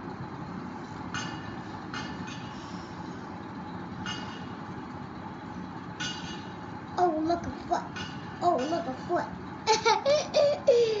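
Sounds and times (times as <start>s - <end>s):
room background noise: 0.0s - 11.0s.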